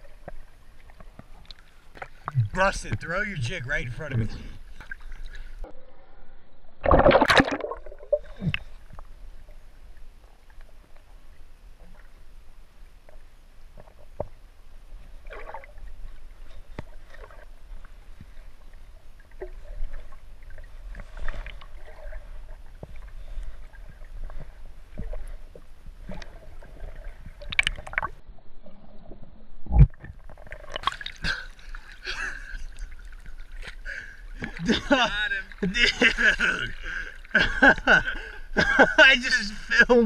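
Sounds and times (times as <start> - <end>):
water splashing: 0.0 - 5.7, 6.8 - 10.0, 15.1 - 40.0
underwater rumble: 0.0 - 34.8
underwater clicks and gurgling: 0.0 - 38.6.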